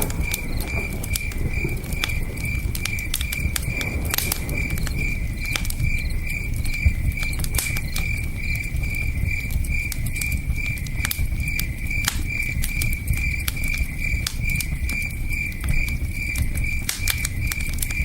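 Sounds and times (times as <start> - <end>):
campfire crackling and popping: 0.0 - 18.0
crickets chirping: 0.0 - 18.0.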